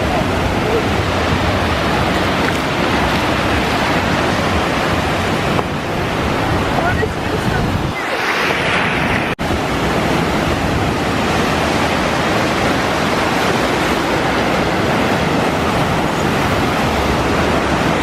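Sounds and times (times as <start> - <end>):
ocean surf rushing: 0.0 - 18.0
wind on microphone: 0.0 - 18.0.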